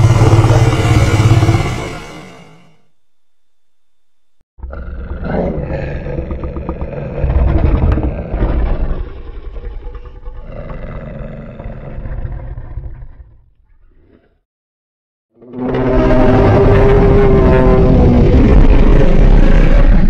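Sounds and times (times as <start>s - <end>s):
deep monster roar: 0.0s - 2.8s, 4.6s - 13.4s, 15.4s - 20.0s.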